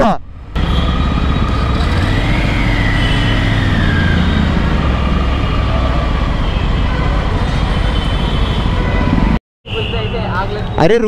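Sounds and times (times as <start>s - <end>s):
road and traffic noise: 0.0s - 11.0s
motorcycle engine rumbling: 0.2s - 9.4s.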